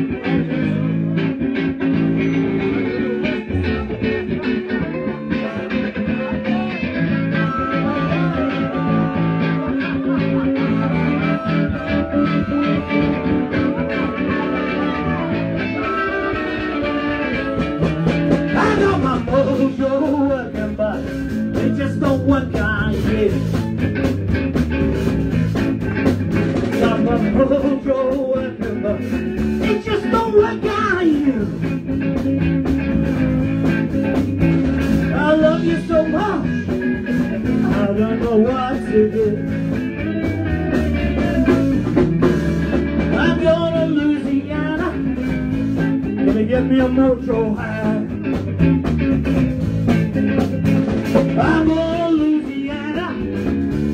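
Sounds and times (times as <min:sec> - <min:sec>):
drums keeping steady beat: 0:00.0 - 0:53.9
electric guitar lines: 0:00.0 - 0:53.9.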